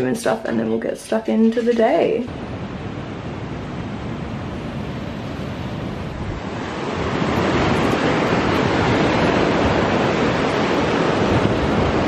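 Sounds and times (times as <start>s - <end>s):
wind on microphone: 2.0s - 12.0s
ocean surf breaking: 2.3s - 12.0s.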